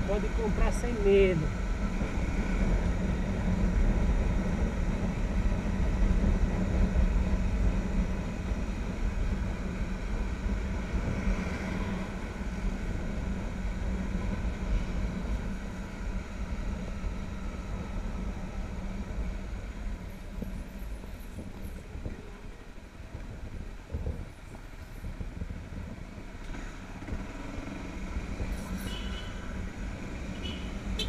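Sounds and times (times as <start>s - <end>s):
wind rumble on microphone: 0.0s - 31.0s.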